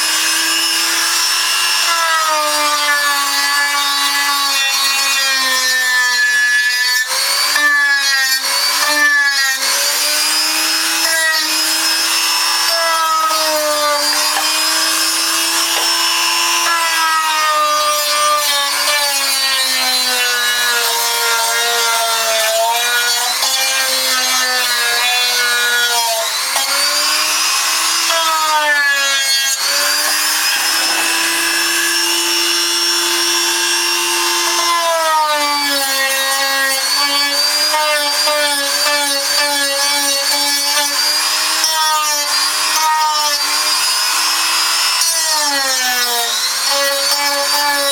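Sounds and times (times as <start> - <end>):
power tool motor whine: 7.2 - 47.9.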